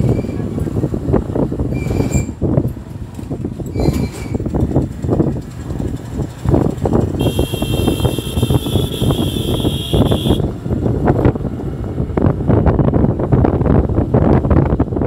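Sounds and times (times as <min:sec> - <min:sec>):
vehicle rumble on road: 0:00.0 - 0:15.0
wind buffeting microphone: 0:00.0 - 0:15.0.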